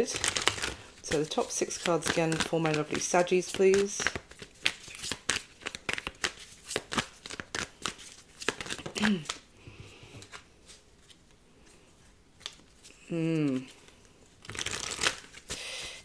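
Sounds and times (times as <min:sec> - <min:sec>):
cards being shuffled: 0:00.0 - 0:15.6.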